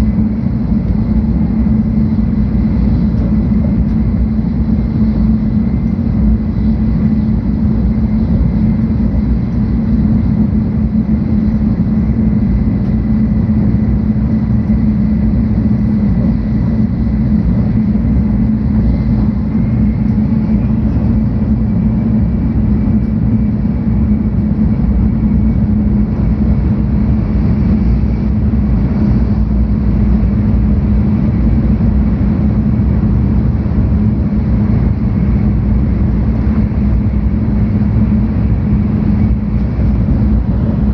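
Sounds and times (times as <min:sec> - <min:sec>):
train cabin rumble: 0:00.0 - 0:40.9.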